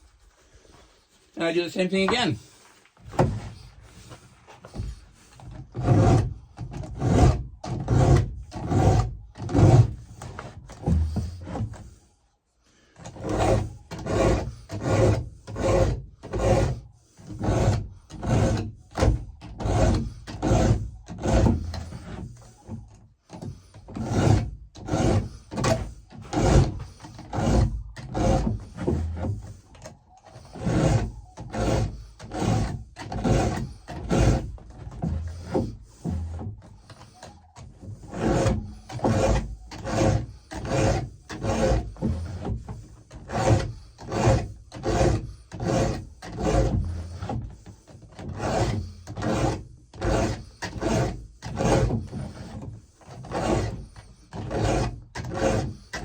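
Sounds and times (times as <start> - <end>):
hand file rasping on chain: 2.0 - 12.0, 12.8 - 56.0.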